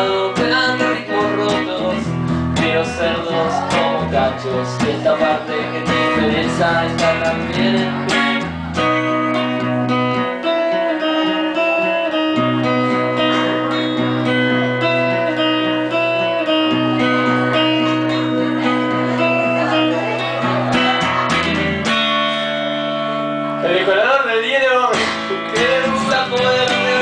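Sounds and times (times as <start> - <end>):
steady bass line: 0.0 - 23.9
live guitar: 0.0 - 27.0.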